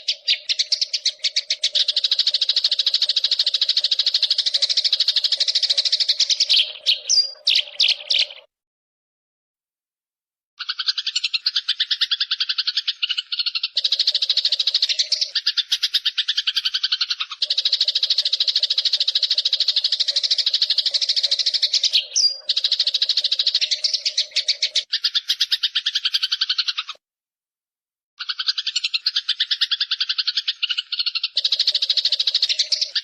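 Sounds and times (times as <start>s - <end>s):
rapid buzzing trill call: 0.0s - 8.4s, 13.7s - 26.9s, 28.2s - 33.0s.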